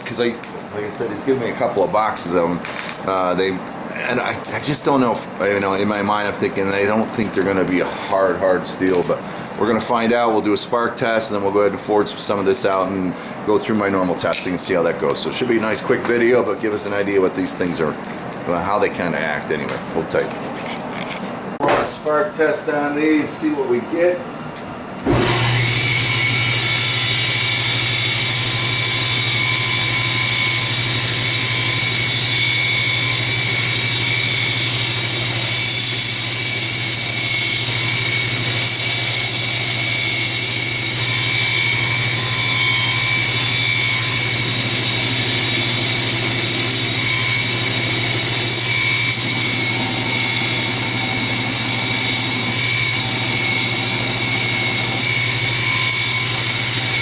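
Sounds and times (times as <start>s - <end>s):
grinder whining: 0.0s - 21.6s, 25.0s - 57.0s.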